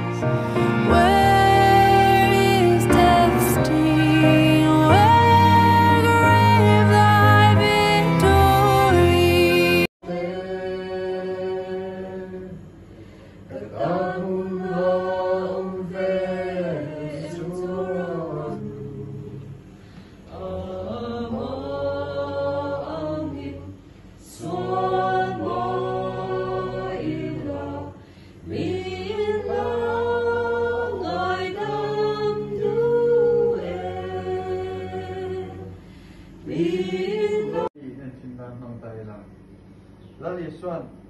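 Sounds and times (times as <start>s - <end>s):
group singing a hymn unaccompanied: 0.0s - 12.6s, 13.5s - 19.6s, 20.3s - 37.8s.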